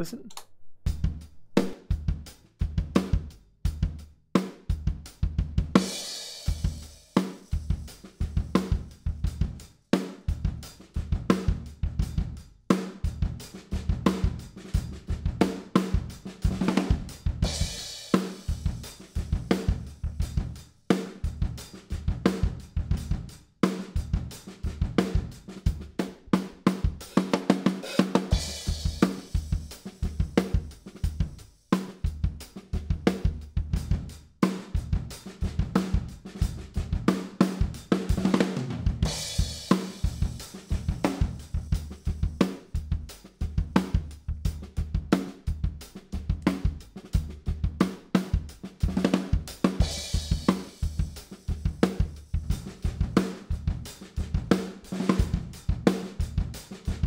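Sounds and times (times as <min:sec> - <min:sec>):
drum kit beat: 0:00.9 - 0:57.0.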